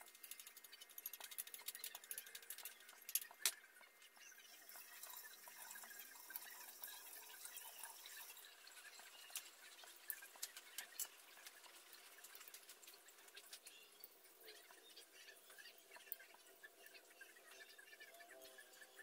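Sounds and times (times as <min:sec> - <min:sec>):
fritter sizzling in oil: 0:00.0 - 0:19.0.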